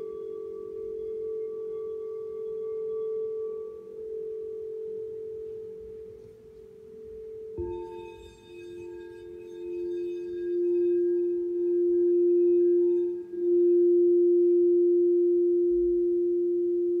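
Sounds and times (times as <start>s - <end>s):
higher singing bowl tone: 0.0s - 17.0s
singing bowl low tone: 0.0s - 17.0s.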